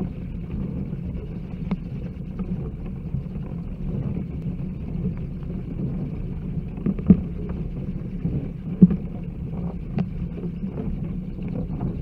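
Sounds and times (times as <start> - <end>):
steady low rumbling: 0.0 - 12.0.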